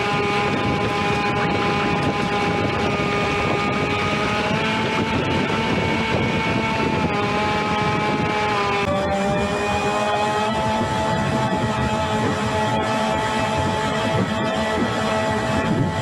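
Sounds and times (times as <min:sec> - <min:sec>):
toy jet ski motor whining: 0:00.0 - 0:16.0.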